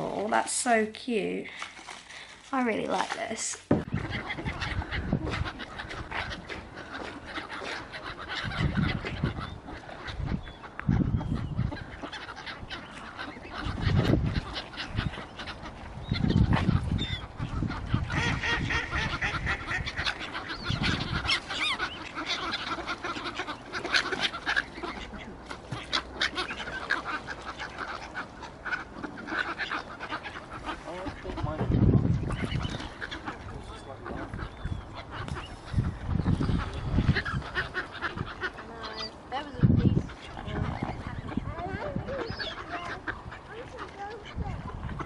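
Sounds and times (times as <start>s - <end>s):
ducks quacking: 1.5s - 45.0s
geese honking: 3.8s - 45.0s.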